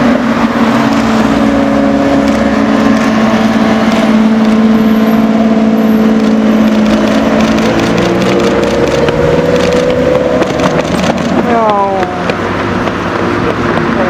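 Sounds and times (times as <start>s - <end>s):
car engine at low revs: 0.0s - 14.0s.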